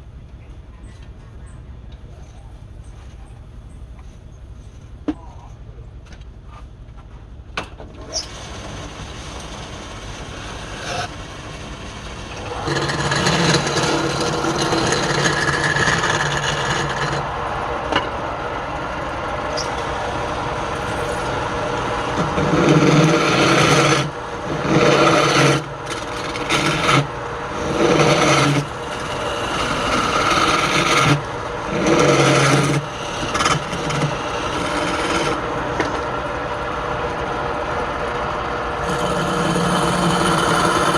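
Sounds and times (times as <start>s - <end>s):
tool cutting spinning wood: 8.1s - 40.9s
woodturning lathe running: 8.1s - 40.9s.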